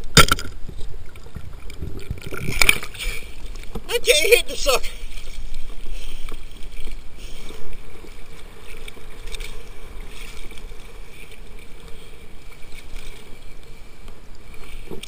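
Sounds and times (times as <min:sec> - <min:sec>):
sea water sloshing and lapping: 0:00.0 - 0:15.0.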